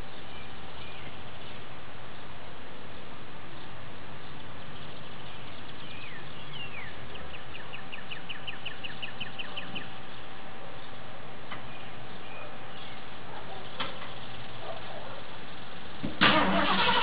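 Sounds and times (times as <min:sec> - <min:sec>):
songbird singing: 0:00.0 - 0:16.1
background hiss: 0:00.0 - 0:17.0.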